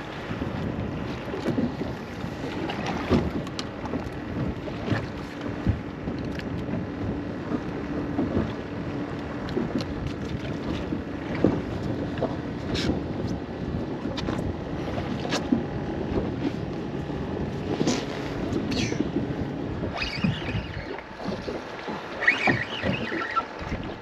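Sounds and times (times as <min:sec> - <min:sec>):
water sloshing: 0:00.0 - 0:24.0
wind buffeting microphone: 0:00.0 - 0:24.0.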